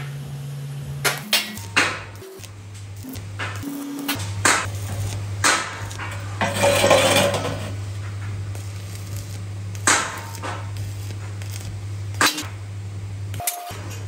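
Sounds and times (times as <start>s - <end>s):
steady low hum: 0.0s - 14.0s
welding arc crackling: 0.1s - 14.0s.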